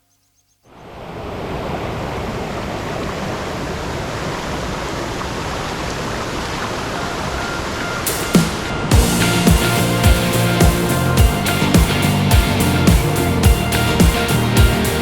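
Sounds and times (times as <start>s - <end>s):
stream rushing over rocks: 1.0s - 15.0s.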